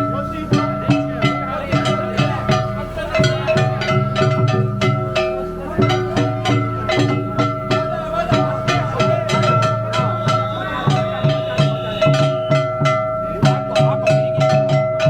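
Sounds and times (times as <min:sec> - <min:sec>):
festival drum and bell strikes: 0:00.0 - 0:15.0
ringing metallic tone: 0:00.0 - 0:15.0.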